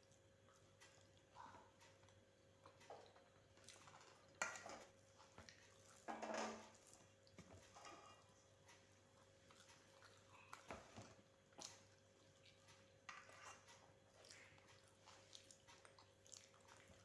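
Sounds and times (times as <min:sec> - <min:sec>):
faint eating sounds: 0:00.0 - 0:17.0.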